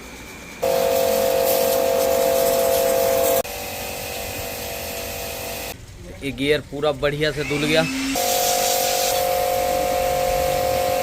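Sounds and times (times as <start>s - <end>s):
high-pressure spray jet hissing: 0.5s - 5.8s, 7.3s - 11.0s.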